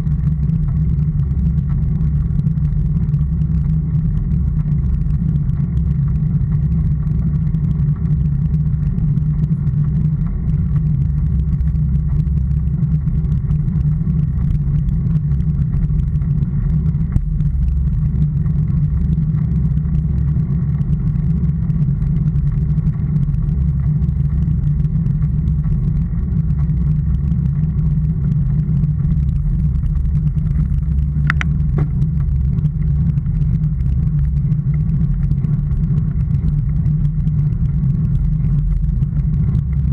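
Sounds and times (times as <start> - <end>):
vehicle road rumble: 0.0 - 39.9.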